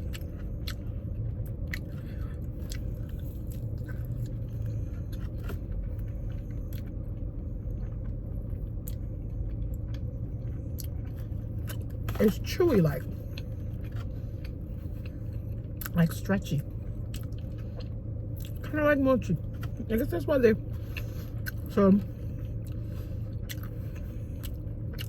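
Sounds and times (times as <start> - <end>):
low hum inside a car: 0.0 - 25.0
person chewing: 0.0 - 25.0.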